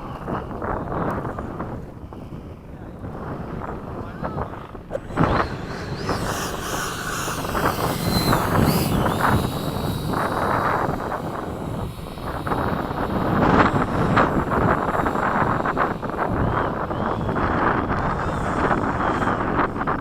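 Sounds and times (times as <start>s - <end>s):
rc jet fan whining: 0.0s - 20.0s
wind buffeting microphone: 0.0s - 20.0s.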